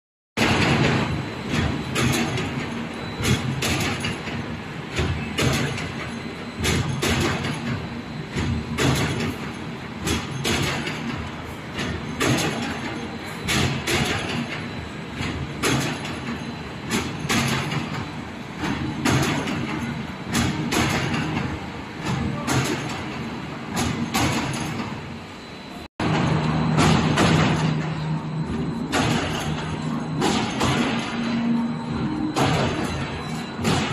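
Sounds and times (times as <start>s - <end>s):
metallic clanks and rattles: 0.4s - 25.0s, 26.0s - 33.9s
steady mechanical din: 0.4s - 33.9s.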